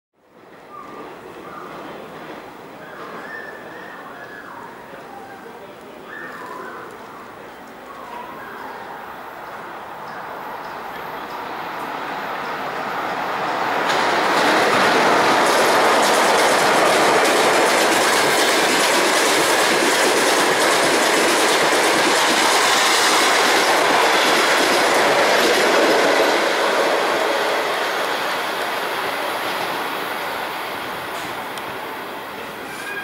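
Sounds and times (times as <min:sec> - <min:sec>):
train wheels rushing on rails: 0:00.3 - 0:33.0.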